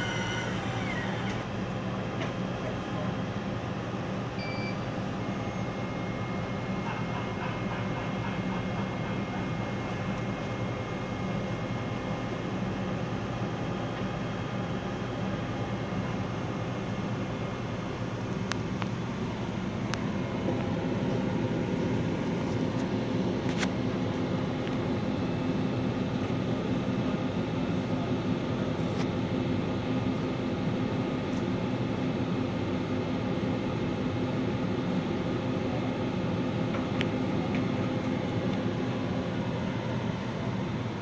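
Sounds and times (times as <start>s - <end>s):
fan whirring: 0.0s - 41.0s.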